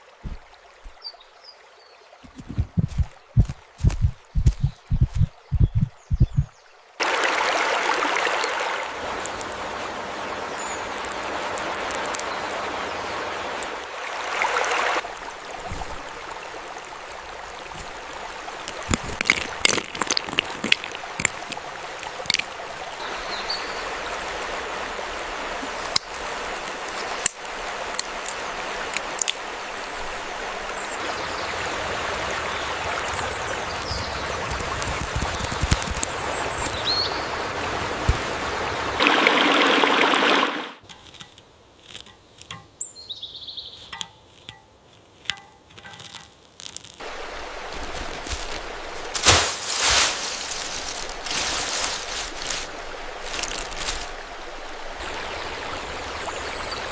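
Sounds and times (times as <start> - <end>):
stream flowing: 0.0 - 42.8, 43.8 - 56.9.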